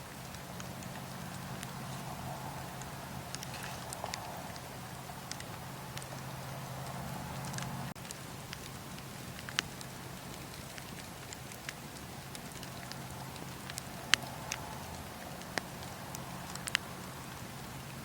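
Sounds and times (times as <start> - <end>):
fire low rush: 0.0 - 18.0
wood fire crackling: 0.0 - 18.0.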